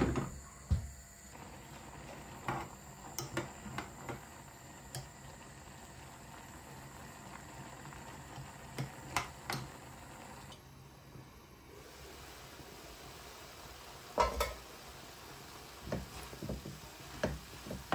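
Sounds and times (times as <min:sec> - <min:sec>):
water boiling: 0:00.0 - 0:17.9.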